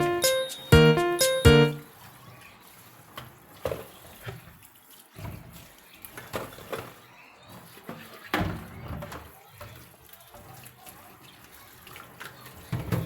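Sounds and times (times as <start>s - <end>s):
water splashing in sink: 1.9s - 13.0s.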